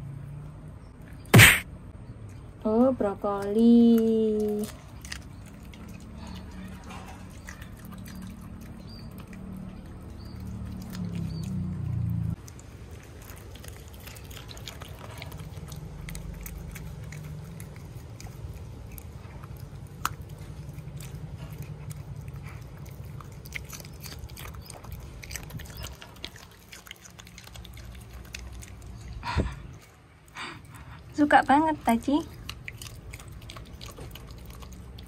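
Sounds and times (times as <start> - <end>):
dog chewing crunchy vegetables: 2.1 - 35.0.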